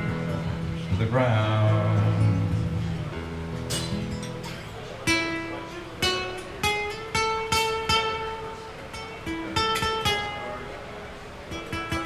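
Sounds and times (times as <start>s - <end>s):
acoustic guitar slow melody: 0.0s - 12.0s.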